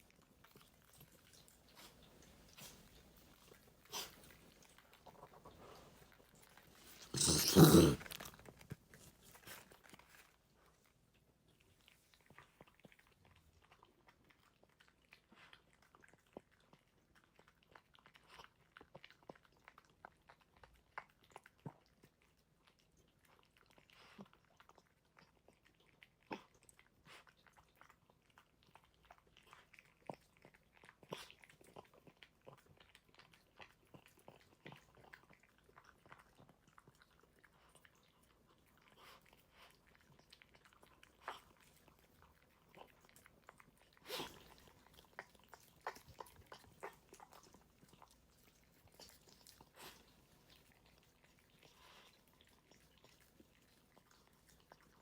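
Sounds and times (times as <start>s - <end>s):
dog chewing and crunching food: 0.0s - 55.0s.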